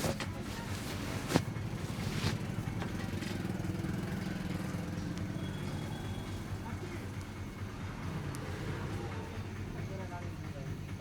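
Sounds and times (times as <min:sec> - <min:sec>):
low rumble of street traffic: 0:00.0 - 0:11.0.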